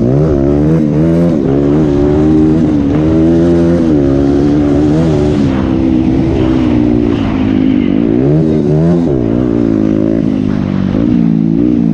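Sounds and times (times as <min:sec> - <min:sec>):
motocross bike engine revving: 0:00.0 - 0:11.9.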